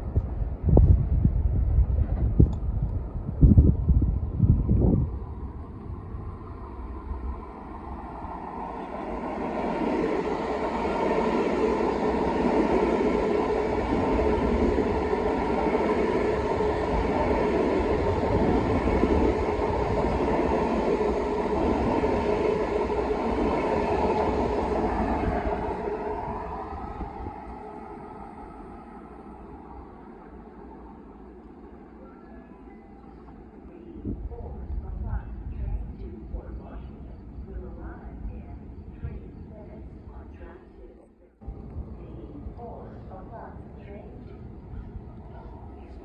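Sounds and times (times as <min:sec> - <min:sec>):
electric train passing: 0:00.0 - 0:46.0.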